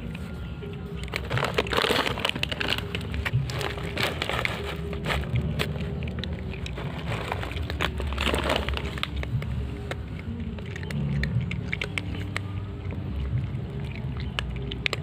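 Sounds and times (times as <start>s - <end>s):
cats crunching dry kibble: 0.0s - 15.0s.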